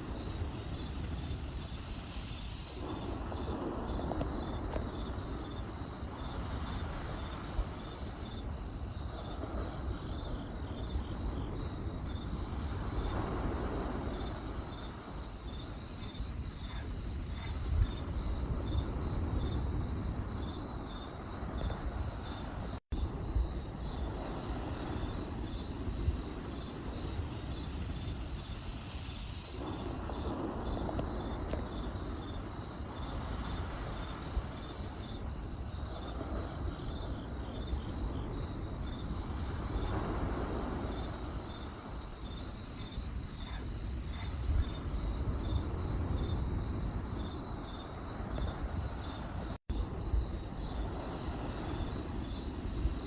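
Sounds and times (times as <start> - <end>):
campfire crackling: 0.0 - 53.0
crickets chirping: 0.0 - 53.0.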